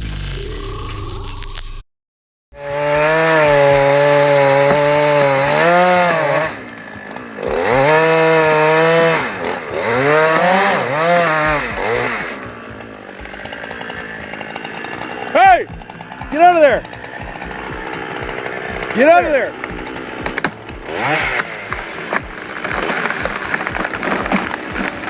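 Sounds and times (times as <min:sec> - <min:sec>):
chainsaw cutting wood: 0:02.6 - 0:25.0.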